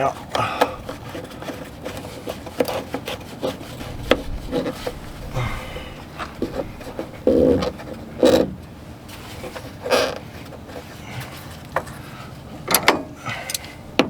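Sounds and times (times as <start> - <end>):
parts rubbing and scraping: 0.0 - 13.8.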